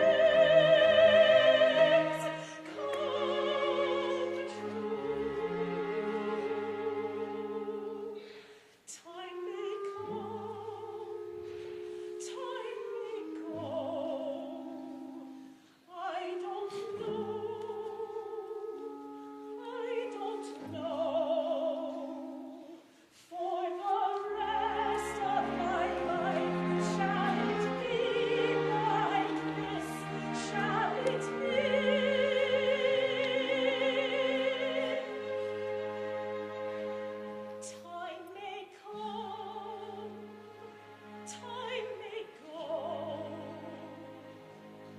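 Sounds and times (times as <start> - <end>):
operatic singing with vibrato: 0.0 - 44.9.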